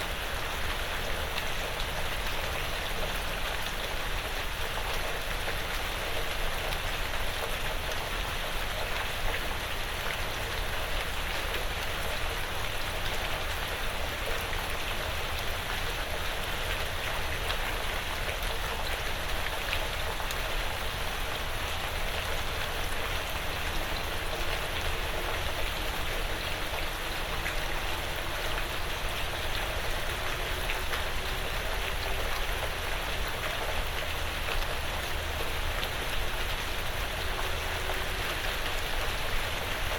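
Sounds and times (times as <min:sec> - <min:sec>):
light rain pattering on roof: 0:00.0 - 0:39.9.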